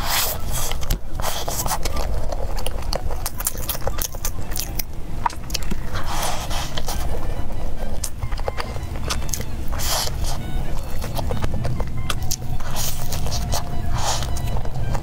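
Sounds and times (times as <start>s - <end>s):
crunchy chewing of burger: 0.0s - 15.0s.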